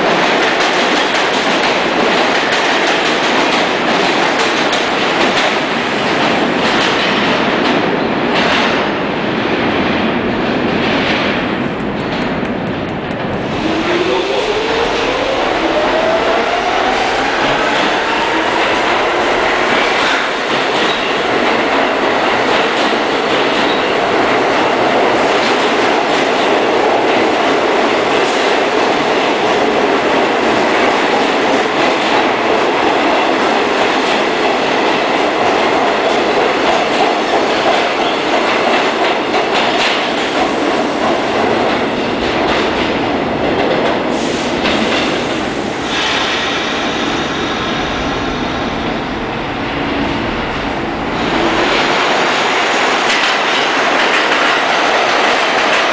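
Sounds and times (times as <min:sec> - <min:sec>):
subway train wheels rumbling: 0:00.0 - 0:55.9.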